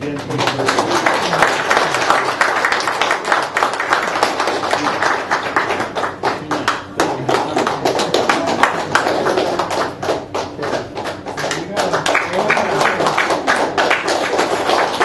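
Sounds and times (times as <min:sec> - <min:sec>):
audience applauding: 0:00.1 - 0:15.0.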